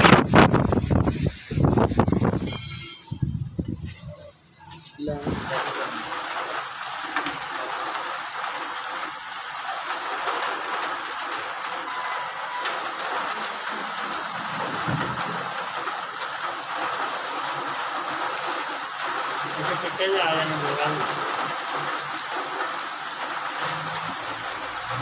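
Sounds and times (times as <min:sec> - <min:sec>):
rain falling on wet road: 0:04.6 - 0:25.0.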